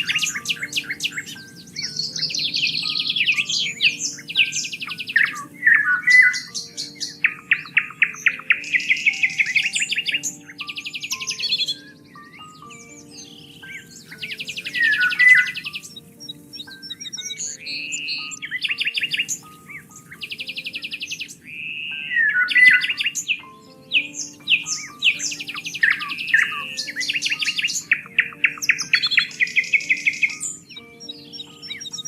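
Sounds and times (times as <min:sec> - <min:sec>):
songbirds singing and calling: 0:00.0 - 0:32.0.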